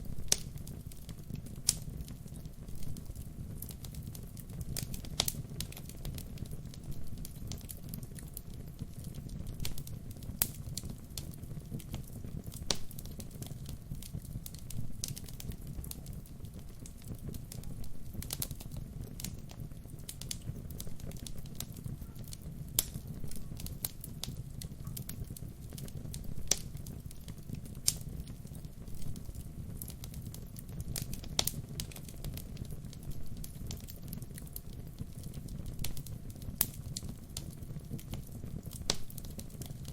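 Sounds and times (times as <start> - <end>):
burning logs crackling and popping: 0.0 - 39.9
rumble of fire flames: 0.0 - 39.9.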